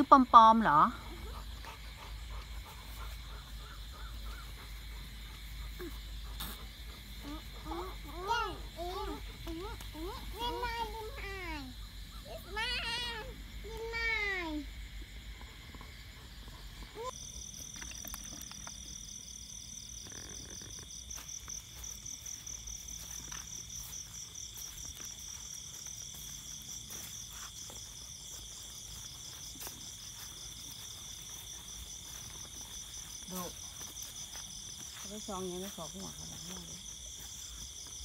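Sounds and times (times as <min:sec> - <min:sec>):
lower continuous cricket trill: 0:00.0 - 0:38.0.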